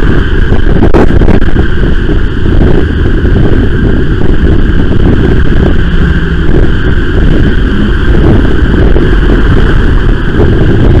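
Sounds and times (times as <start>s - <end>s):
heavy traffic rumble: 0.0s - 11.0s
wind rush on microphone: 0.0s - 11.0s.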